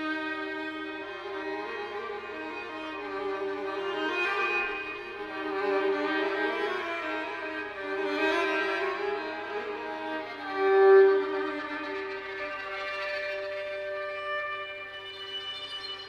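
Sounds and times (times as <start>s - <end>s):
slow bowed-string music: 0.0s - 16.0s.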